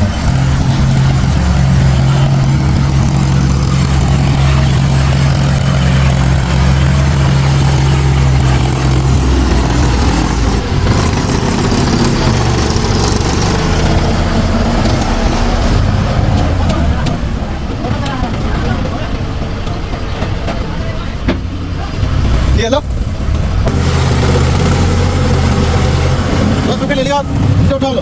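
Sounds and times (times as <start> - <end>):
low rumble: 0.0 - 27.7
diesel engine humming: 0.0 - 28.0.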